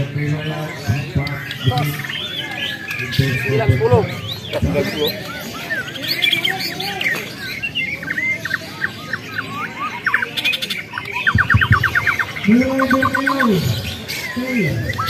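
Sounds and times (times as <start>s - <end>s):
bird trilling: 0.0s - 15.0s
songbird whistling and chirping: 0.0s - 15.0s
low bird call: 0.8s - 15.0s.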